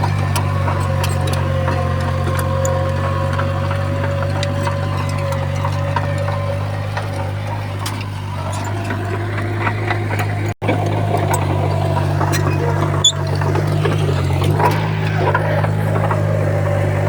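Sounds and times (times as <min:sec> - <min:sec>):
bulldozer diesel engine running: 0:00.0 - 0:17.0
machine clanking: 0:00.0 - 0:17.0.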